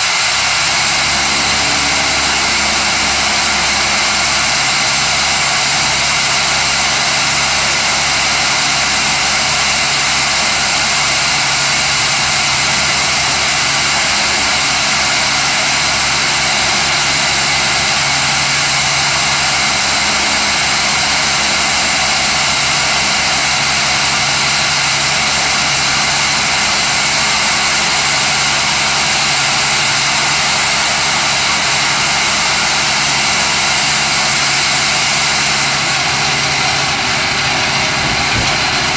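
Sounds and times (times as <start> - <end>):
vibrating screener machine running: 0.0 - 38.9.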